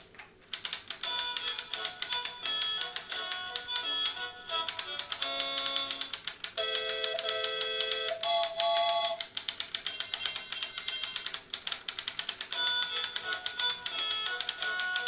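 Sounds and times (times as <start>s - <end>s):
toy projector clicking: 0.5s - 15.0s.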